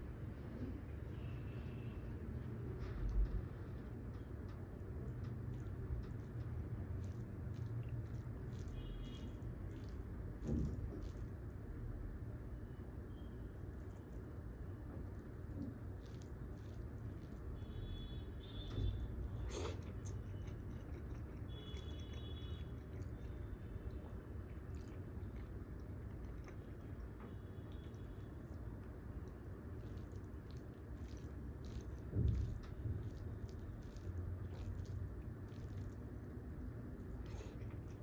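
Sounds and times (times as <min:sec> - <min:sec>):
person chewing food: 0:03.2 - 0:11.5, 0:13.7 - 0:38.0.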